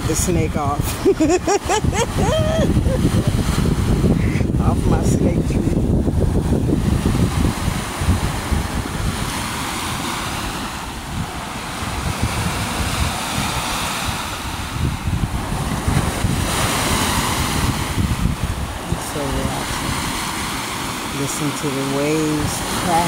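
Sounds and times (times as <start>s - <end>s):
waves washing against shore: 0.0s - 23.0s
wind buffeting microphone: 0.0s - 23.0s.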